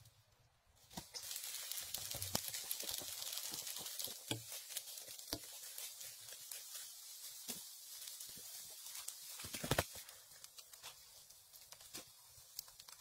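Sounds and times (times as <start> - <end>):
footsteps crunching dry leaves: 1.0 - 12.5.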